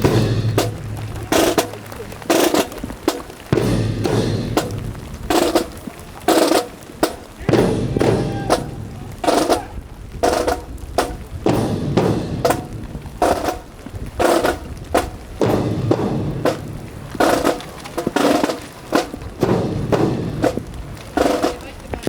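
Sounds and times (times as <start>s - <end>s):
marching percussion hits: 0.0s - 22.0s.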